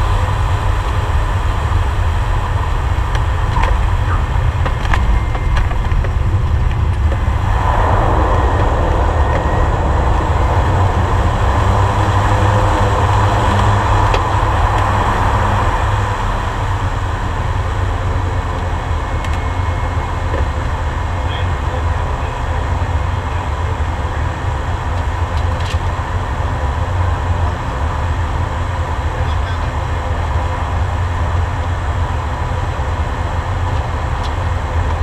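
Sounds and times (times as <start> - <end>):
turboprop engine deep rumble: 0.0 - 35.0.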